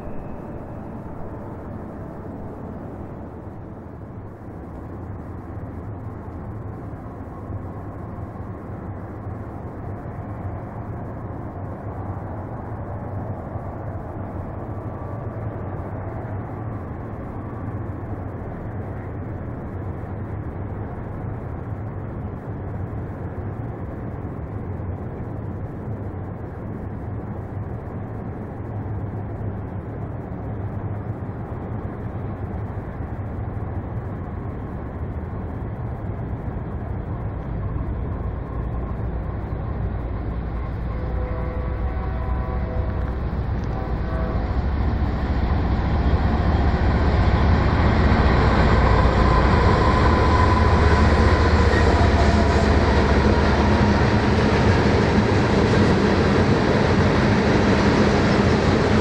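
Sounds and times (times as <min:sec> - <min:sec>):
distant diesel locomotive rumble: 0:00.0 - 0:59.0.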